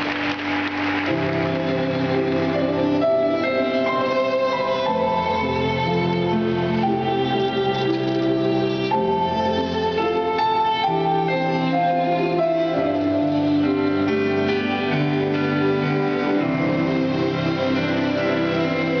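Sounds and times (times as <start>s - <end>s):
slow instrumental music: 0.0s - 19.0s.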